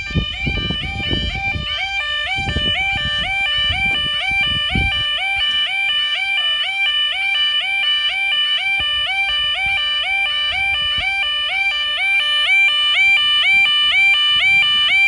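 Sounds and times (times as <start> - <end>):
two-tone level crossing alarm: 0.0 - 15.0.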